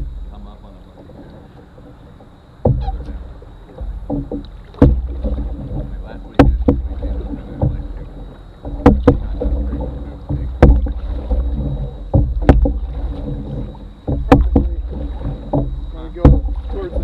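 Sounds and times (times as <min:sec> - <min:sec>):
low rumble: 0:00.0 - 0:17.0
paddle knocking on canoe hull: 0:00.0 - 0:17.0
water sloshing: 0:00.0 - 0:17.0.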